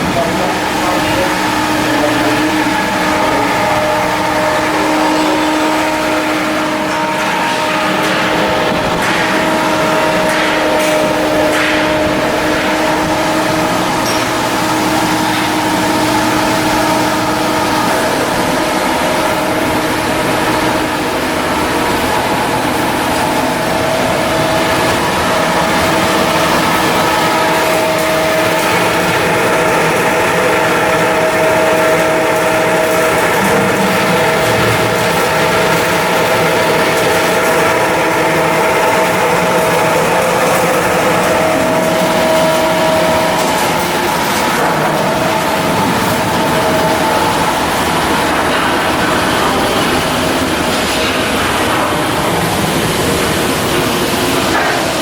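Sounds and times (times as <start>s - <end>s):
machinery droning: 0.0s - 55.0s.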